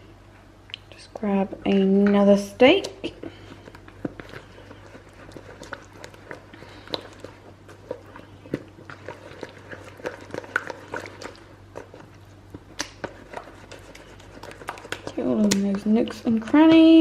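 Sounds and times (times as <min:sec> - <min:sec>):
wet squishing of batter: 0:00.0 - 0:17.0.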